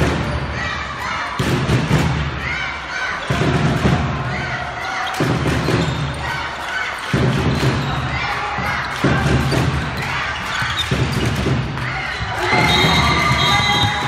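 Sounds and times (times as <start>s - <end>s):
people shouting: 2.4s - 14.0s.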